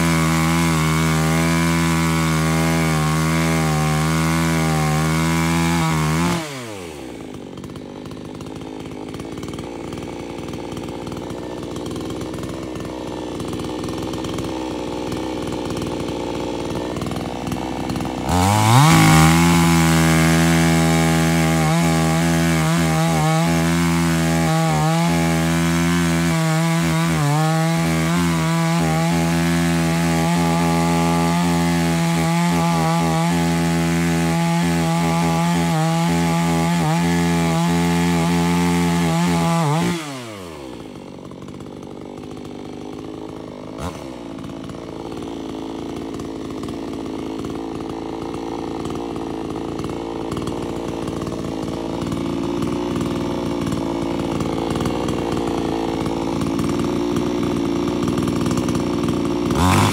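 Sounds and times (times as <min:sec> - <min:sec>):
chainsaw cutting into tree trunk: 0:00.0 - 0:59.9.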